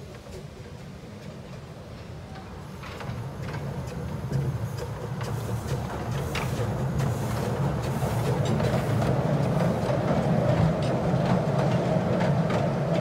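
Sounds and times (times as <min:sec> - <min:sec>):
train rumbling over a bridge: 0:00.0 - 0:13.0
wheels clicking on rail joints: 0:00.0 - 0:13.0.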